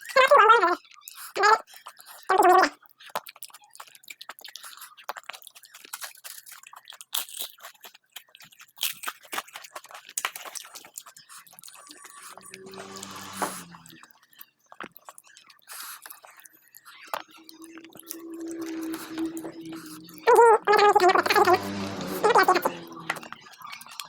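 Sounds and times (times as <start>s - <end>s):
crunching and wet chewing: 0.0s - 22.1s.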